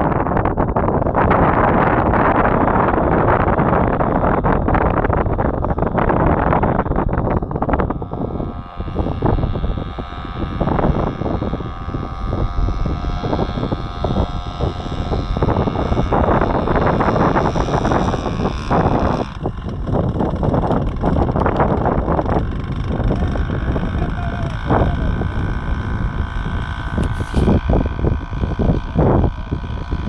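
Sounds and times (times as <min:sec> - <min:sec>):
drone motor and propeller: 0:00.0 - 0:30.0
wind noise on microphone: 0:00.0 - 0:30.0.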